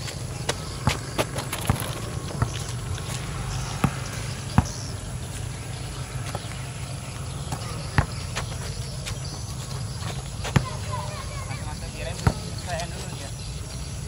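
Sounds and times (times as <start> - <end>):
basketball bouncing on asphalt: 0.0 - 13.3.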